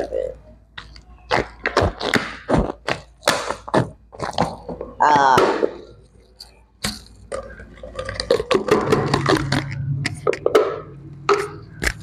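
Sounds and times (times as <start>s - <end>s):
slime squelching: 0.6s - 10.5s.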